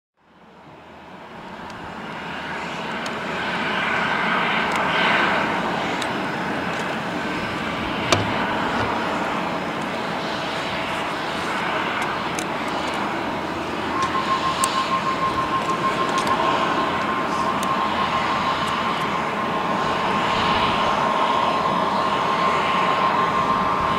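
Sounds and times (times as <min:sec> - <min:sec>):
jet engines humming: 0:00.3 - 0:23.9.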